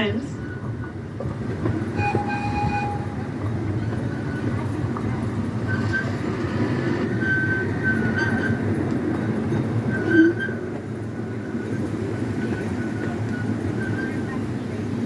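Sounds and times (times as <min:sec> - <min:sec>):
train rumbling on track: 0:00.0 - 0:15.0
train wheels squealing: 0:01.8 - 0:10.8, 0:11.4 - 0:14.9.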